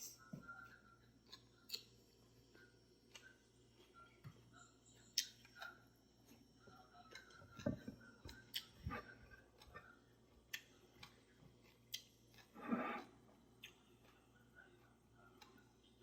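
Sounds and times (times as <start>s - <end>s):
open-mouthed chewing: 0.0s - 16.0s.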